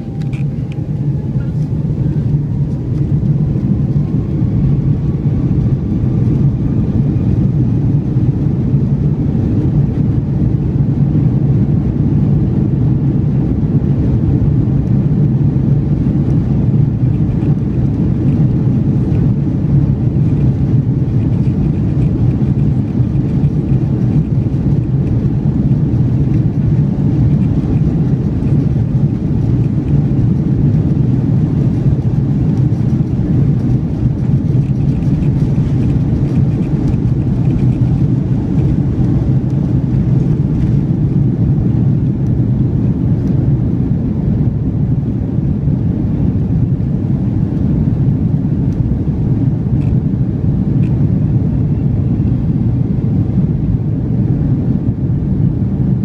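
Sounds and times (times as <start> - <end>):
jet engines and wheels roaring: 0.0 - 56.0.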